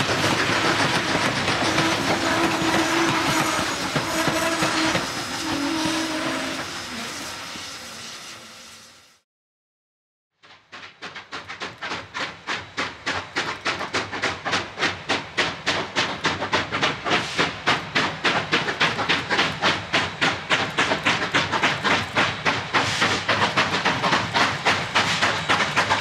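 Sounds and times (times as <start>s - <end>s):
steam locomotive chuffing: 0.0s - 9.2s, 10.4s - 26.0s.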